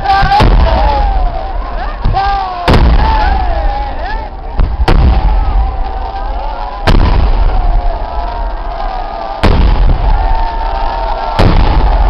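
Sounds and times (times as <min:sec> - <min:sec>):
crowd din: 0:00.0 - 0:12.0
fireworks bangs: 0:00.0 - 0:12.0.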